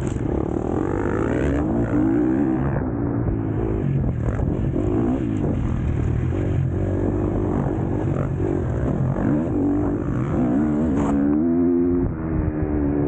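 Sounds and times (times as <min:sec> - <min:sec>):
motocross engine revving: 0:00.0 - 0:13.0.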